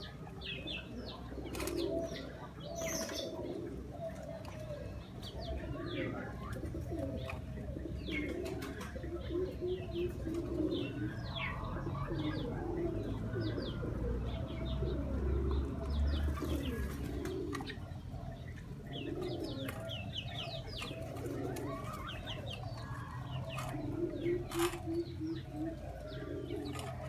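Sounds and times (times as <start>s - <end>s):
birds chirping: 0.0s - 27.0s
pigeons cooing: 0.0s - 27.0s.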